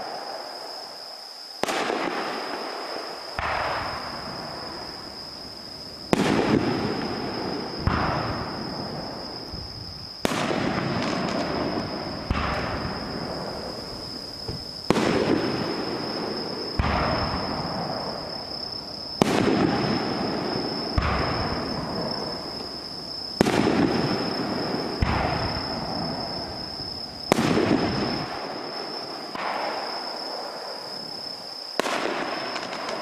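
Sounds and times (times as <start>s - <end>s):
fireworks bangs with rolling echo: 1.6s - 31.2s, 31.8s - 33.0s.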